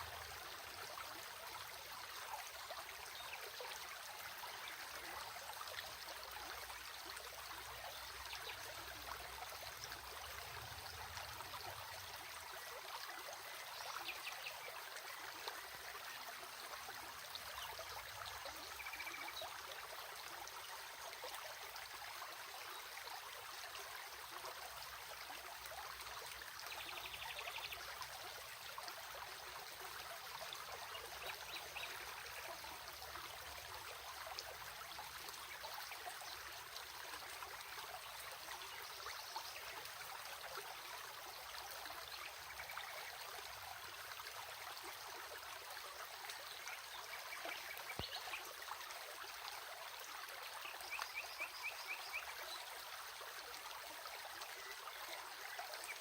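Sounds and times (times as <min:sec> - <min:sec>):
stream water babbling over stones: 0:00.0 - 0:56.0.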